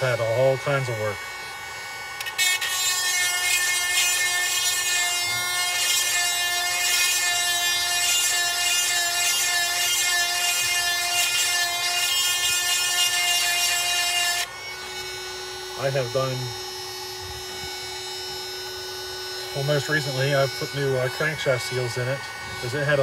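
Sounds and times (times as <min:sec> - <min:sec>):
grinding wheel whining: 0:00.0 - 0:23.0.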